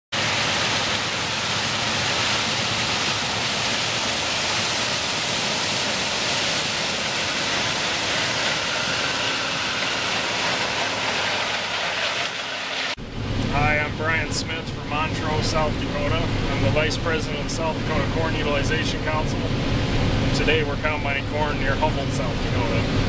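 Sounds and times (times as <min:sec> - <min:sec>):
combine harvester rushing noise: 0:00.1 - 0:23.0.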